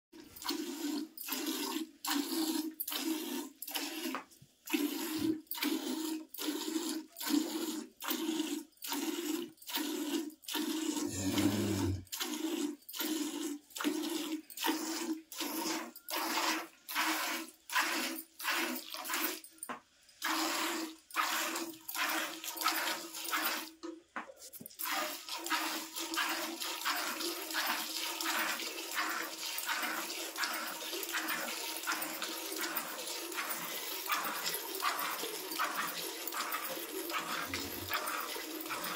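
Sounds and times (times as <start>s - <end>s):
milk squirting into steel pail: 0.3s - 19.4s, 24.5s - 38.9s.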